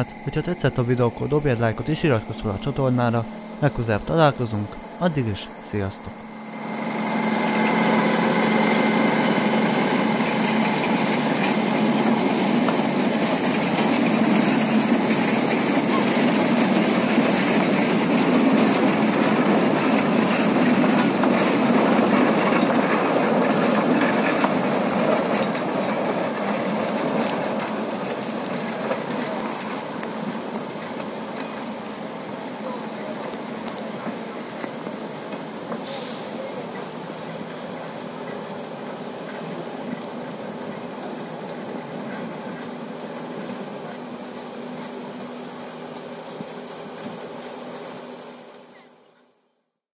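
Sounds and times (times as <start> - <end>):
train wheels on track: 0.0 - 49.0
diesel locomotive engine hum: 0.0 - 49.4.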